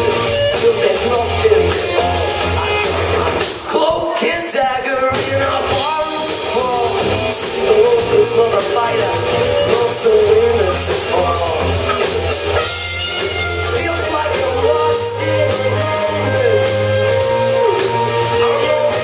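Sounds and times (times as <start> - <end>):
bass line: 0.0 - 4.0, 5.0 - 19.0
drum kit with cymbals: 0.0 - 19.0
electric guitars: 0.0 - 19.0
man singing: 0.0 - 19.0.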